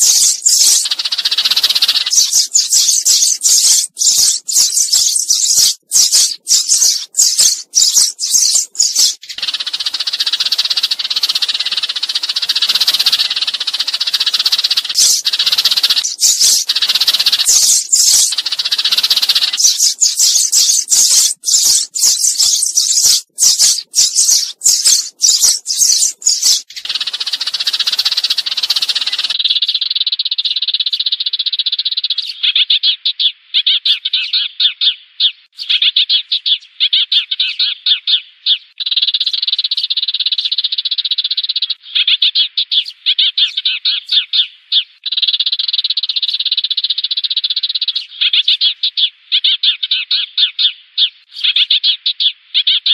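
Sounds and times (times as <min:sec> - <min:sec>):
sparrows chirping: 0:00.0 - 0:52.9.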